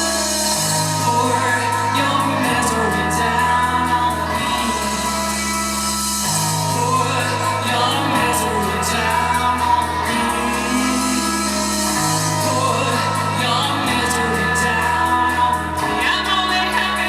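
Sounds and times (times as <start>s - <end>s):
held bass notes: 0.0s - 17.0s
live rock band playing: 0.0s - 17.0s
person singing: 0.0s - 17.0s.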